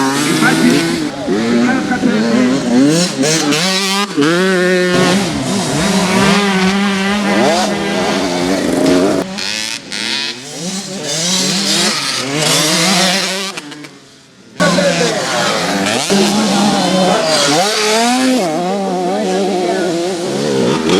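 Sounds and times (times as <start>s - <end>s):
motocross bike engines revving: 0.0s - 20.9s.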